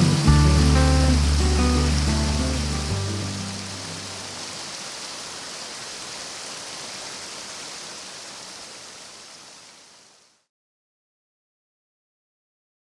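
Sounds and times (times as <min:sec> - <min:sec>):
stream water rushing: 0:00.0 - 0:10.4.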